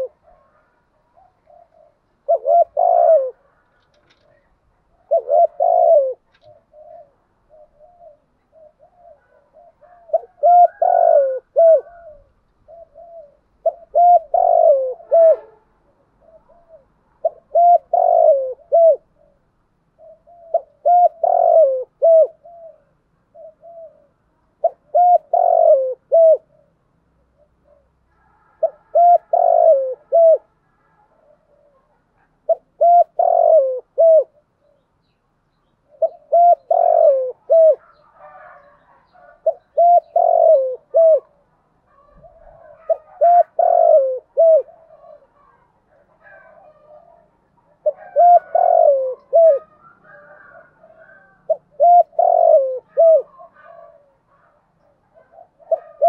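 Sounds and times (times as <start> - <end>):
dove cooing: 0.0 - 34.9, 35.8 - 56.0.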